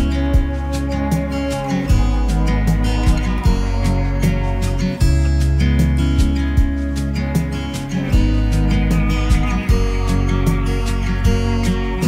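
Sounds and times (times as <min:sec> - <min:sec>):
guitar music with bass: 0:00.0 - 0:12.0.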